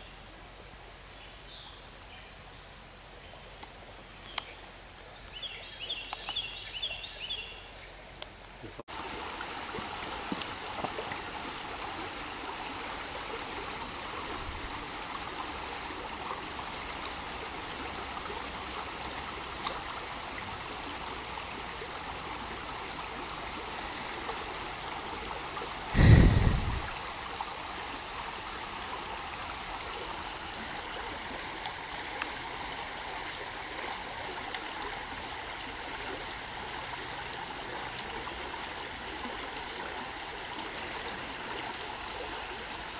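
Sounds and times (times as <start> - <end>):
stream running over riffles: 0.0 - 42.9.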